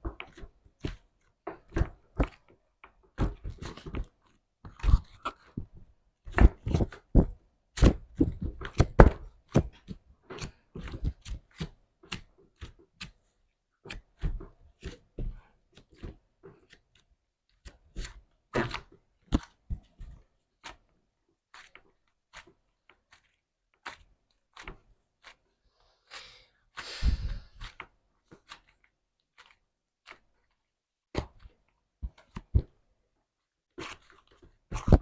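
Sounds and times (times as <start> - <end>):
slime squelch: 0.2 - 32.9, 33.7 - 35.0.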